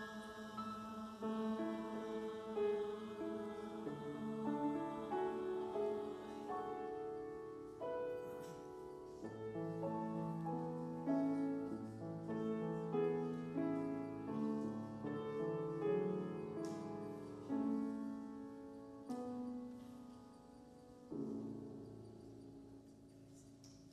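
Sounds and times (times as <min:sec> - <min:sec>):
grand piano chords: 0:00.0 - 0:23.9.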